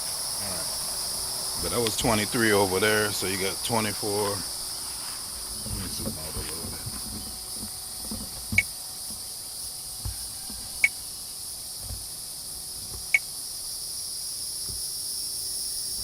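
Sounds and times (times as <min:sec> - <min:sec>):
insect chorus droning: 0:00.0 - 0:16.0.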